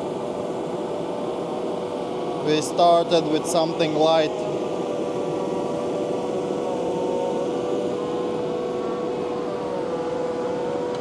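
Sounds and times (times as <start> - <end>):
machine high whine: 0.0 - 11.0.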